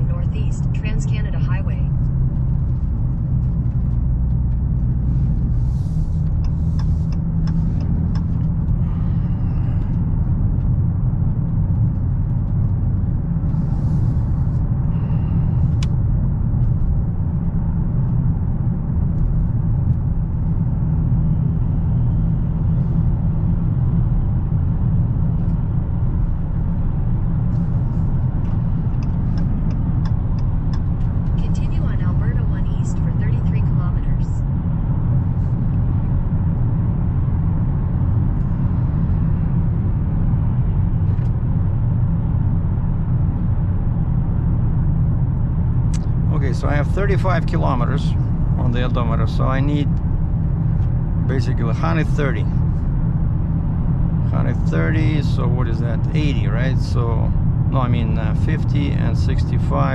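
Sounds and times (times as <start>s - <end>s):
car engine and exhaust rumble: 0.0s - 59.9s
road noise: 0.0s - 59.9s.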